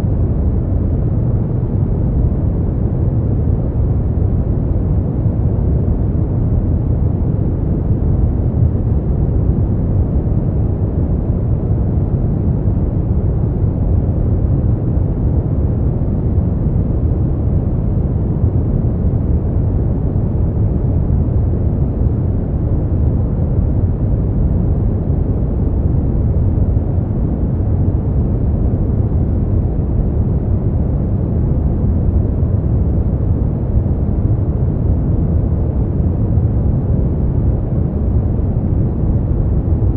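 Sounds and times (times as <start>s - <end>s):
deep rumbling noise: 0.0s - 39.9s.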